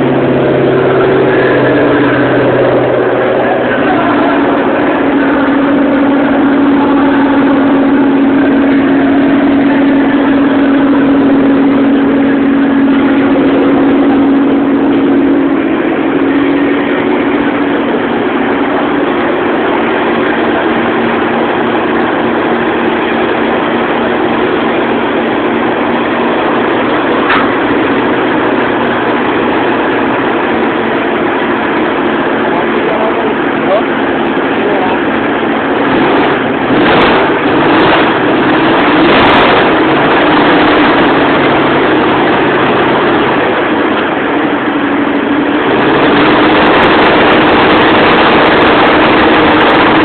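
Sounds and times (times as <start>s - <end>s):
engine idling: 0.0s - 50.0s
steady hum: 0.0s - 50.0s.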